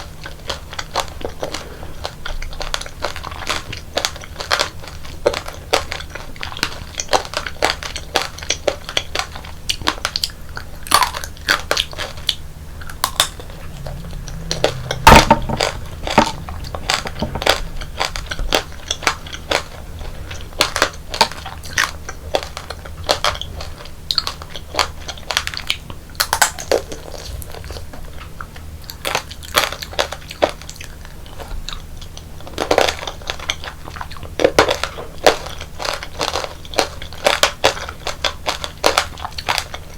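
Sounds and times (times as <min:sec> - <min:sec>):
crunching hard candy: 0:00.0 - 0:39.9.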